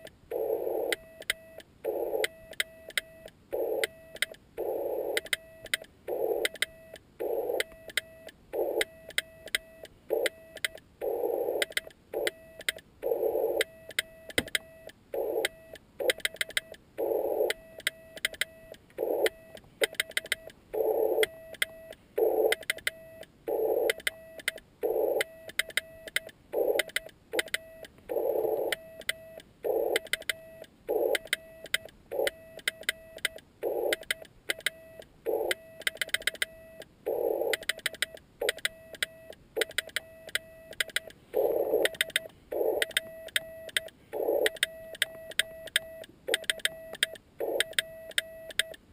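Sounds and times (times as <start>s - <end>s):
morse code tone: 0.0s - 48.8s.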